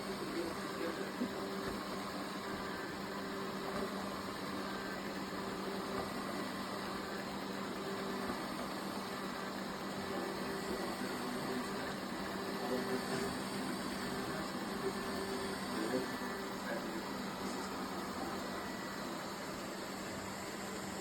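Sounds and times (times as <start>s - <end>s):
robot vacuum cleaner running: 0.0s - 21.0s.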